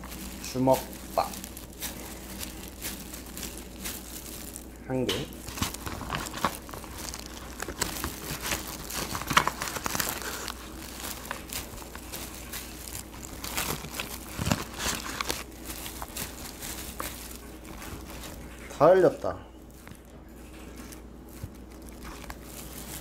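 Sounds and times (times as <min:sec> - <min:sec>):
rice crinkling and rustling: 0:00.0 - 0:23.0.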